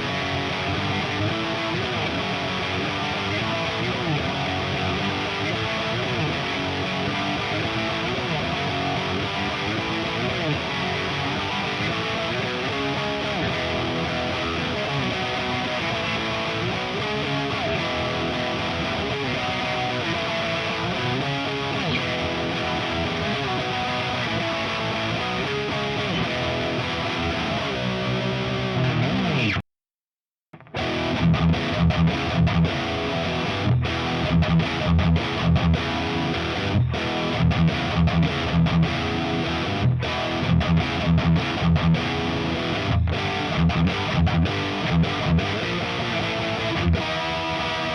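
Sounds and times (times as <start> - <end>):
distorted electric guitar: 0.0 - 29.6, 30.6 - 47.9.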